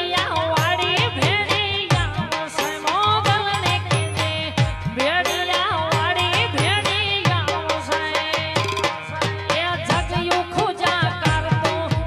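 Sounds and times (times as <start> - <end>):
hand drum rhythm: 0.0 - 12.0.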